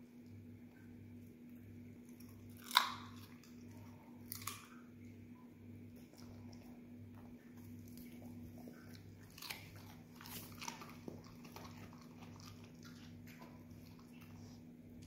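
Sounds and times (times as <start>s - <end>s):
dogs crunching raw carrot: 0.2s - 5.2s, 5.9s - 15.0s.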